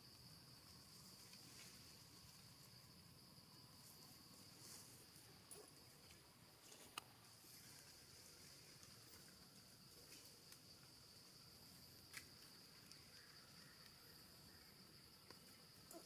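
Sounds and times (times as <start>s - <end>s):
faint insect drone: 0.0s - 16.0s.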